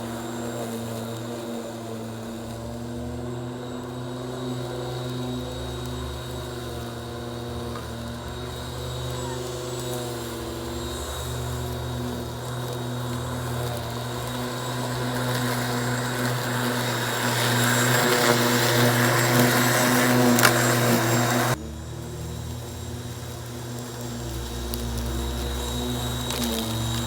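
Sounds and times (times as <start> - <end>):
electric lawn mower humming: 0.0 - 27.0.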